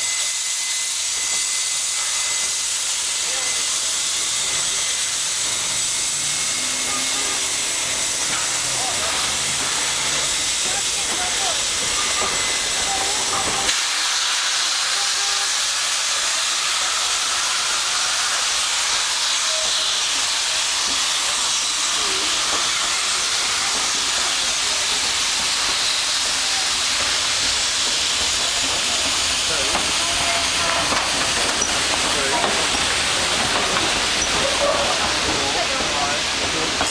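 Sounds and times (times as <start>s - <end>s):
steam locomotive hissing: 0.0s - 36.9s.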